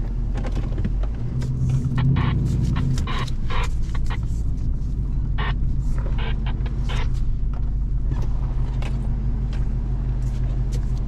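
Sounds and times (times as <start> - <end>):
truck engine idling: 1.3 - 11.0.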